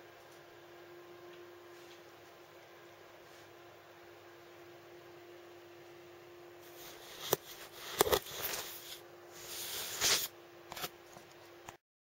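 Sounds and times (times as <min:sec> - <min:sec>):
faint steady hum: 0:00.0 - 0:11.8.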